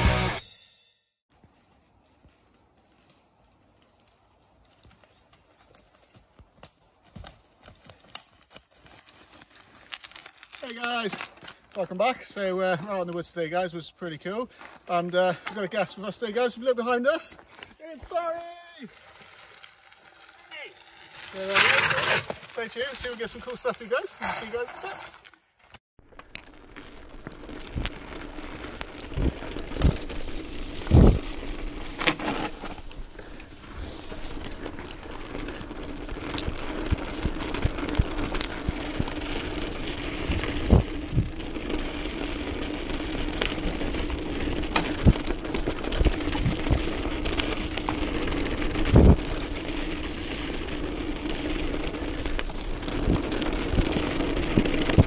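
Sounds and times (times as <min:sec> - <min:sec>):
bike tyre noise on gravel: 0:01.3 - 0:55.0.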